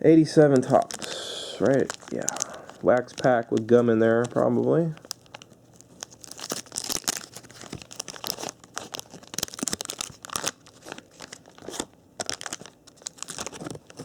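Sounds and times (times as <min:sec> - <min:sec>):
waxed paper wrapper tearing: 0:00.5 - 0:14.0.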